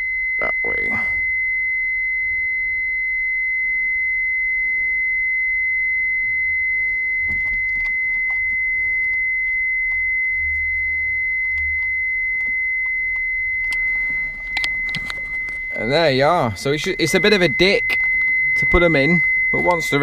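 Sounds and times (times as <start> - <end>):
high-pitched electronic tone: 0.0 - 20.0.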